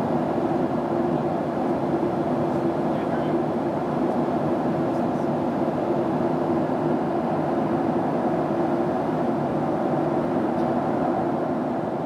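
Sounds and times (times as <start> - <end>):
cabin airflow rush: 0.0 - 12.0
jet engines droning: 0.0 - 12.0.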